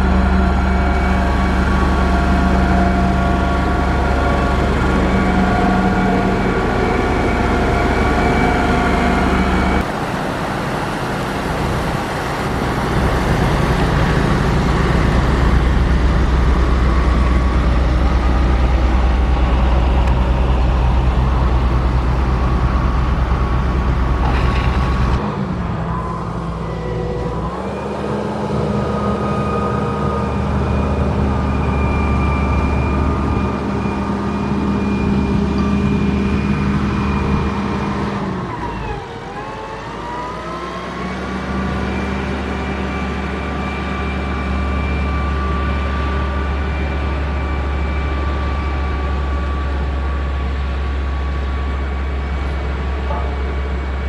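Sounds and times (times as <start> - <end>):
heavy construction machinery engine: 0.0 - 54.0.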